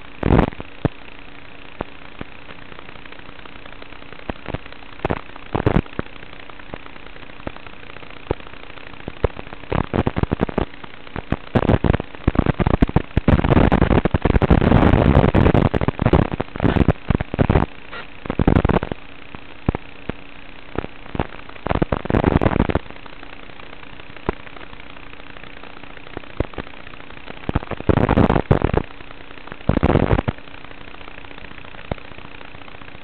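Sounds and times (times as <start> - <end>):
crackling hissing static: 0.0 - 33.0
faint steady hum: 0.0 - 33.0.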